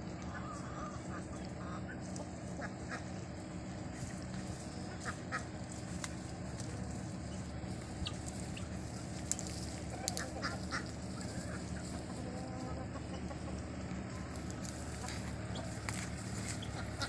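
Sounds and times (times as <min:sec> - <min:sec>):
low background hum: 0:00.0 - 0:17.0
poultry calling: 0:00.1 - 0:17.0.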